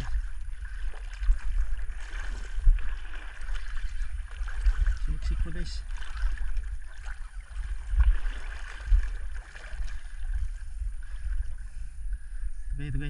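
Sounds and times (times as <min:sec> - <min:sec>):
water lapping against boat hull: 0:00.0 - 0:12.5
wind rumble on microphone: 0:00.0 - 0:13.0.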